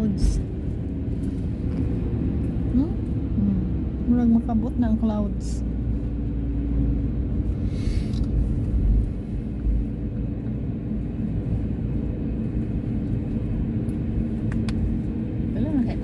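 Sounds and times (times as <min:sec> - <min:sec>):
vehicle cabin road rumble: 0:00.0 - 0:16.0.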